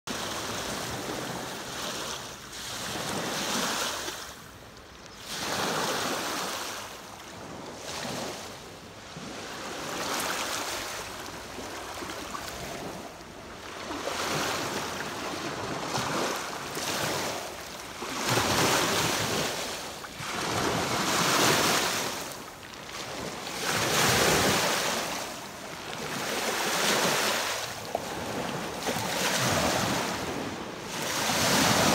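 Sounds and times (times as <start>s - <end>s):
waves lapping on pebbles: 0.1s - 4.4s, 5.1s - 31.9s.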